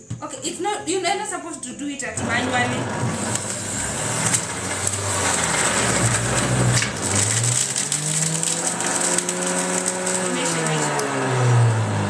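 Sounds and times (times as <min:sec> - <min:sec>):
electric juicer motor whining: 0:02.2 - 0:12.0.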